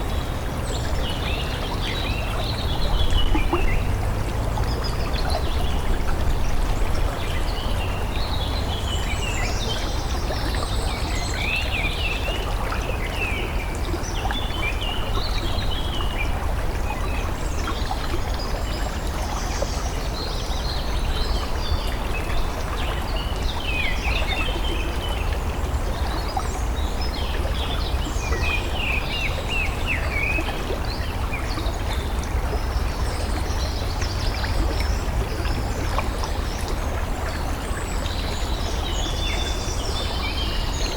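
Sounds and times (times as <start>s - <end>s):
stream running water: 0.0s - 40.9s.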